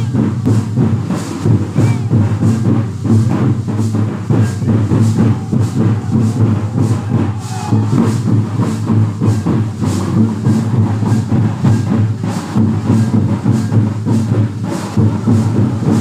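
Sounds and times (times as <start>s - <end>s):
folk dance music: 0.0s - 16.0s
hand drum beat: 0.0s - 16.0s.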